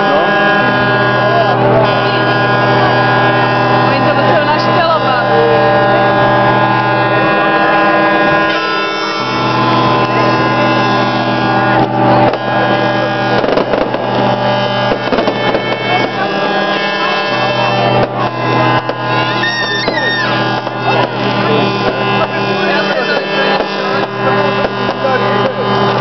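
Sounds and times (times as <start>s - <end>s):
droning held chords music: 0.0s - 26.0s.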